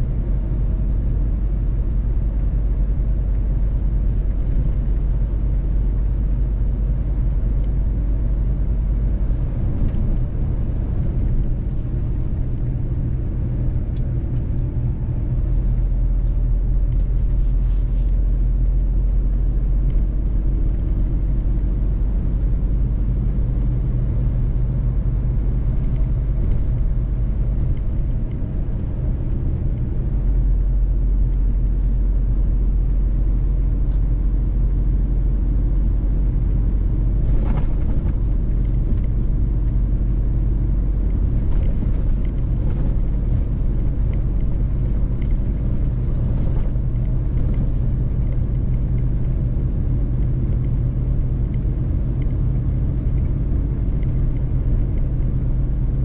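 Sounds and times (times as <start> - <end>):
truck diesel engine driving: 0.0 - 56.0.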